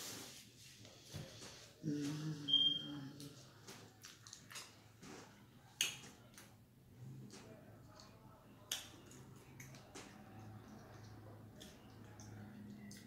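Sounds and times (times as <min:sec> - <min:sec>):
faint eating sounds: 0:00.0 - 0:13.0.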